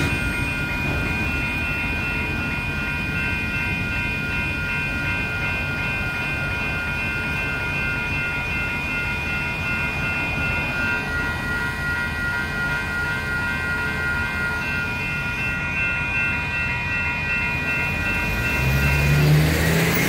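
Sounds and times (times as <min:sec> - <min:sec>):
electronic crossing bells ringing: 0:00.0 - 0:20.0.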